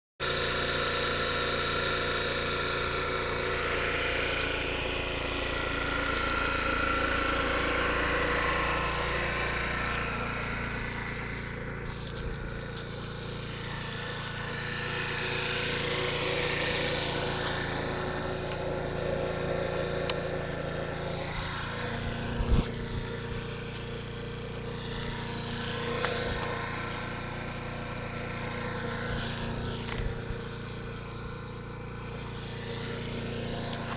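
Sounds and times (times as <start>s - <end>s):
scooter engine running: 0.2s - 33.9s.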